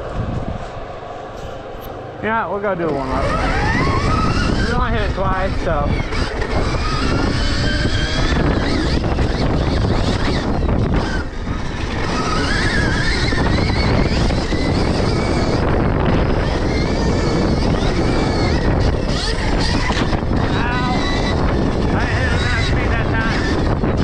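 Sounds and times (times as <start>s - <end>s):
electric motorbike motor whining: 0.0s - 24.0s
wind rush on microphone: 0.0s - 24.0s.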